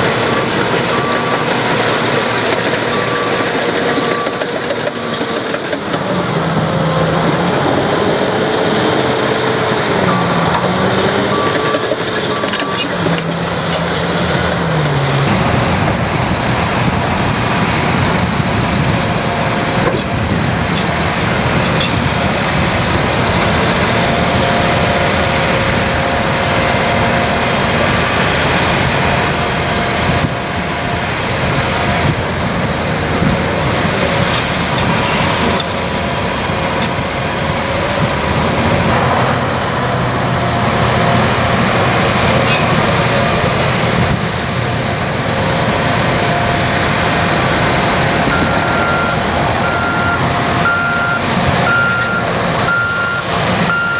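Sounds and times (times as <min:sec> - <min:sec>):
heavy machinery diesel engines: 0:00.0 - 0:53.9.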